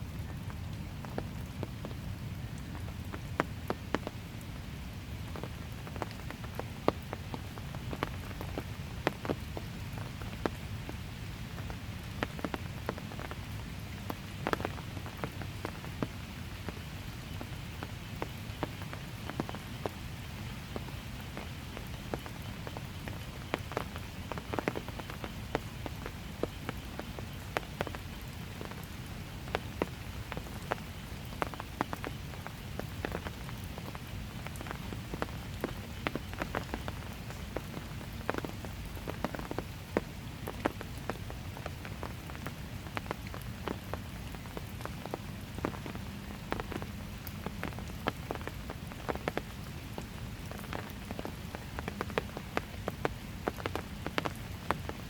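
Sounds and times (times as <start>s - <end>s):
raindrops ticking close by: 0.0s - 55.0s
steady rain: 0.0s - 55.0s.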